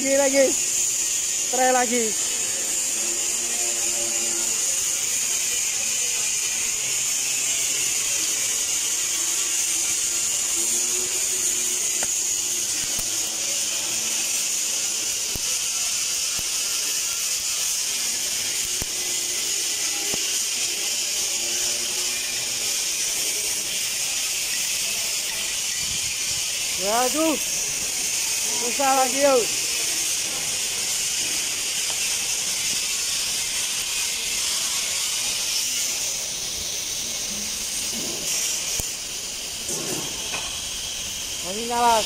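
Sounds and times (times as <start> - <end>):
welding arc hissing: 0.0 - 42.0.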